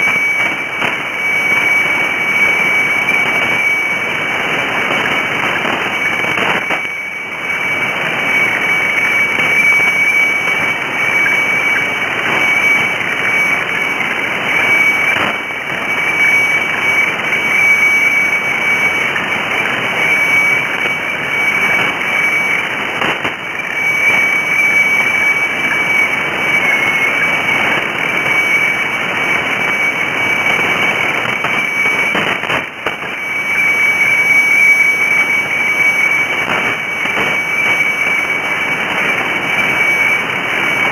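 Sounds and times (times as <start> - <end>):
radio hiss and static: 0.0 - 40.9
steady high radio tone: 0.0 - 40.9.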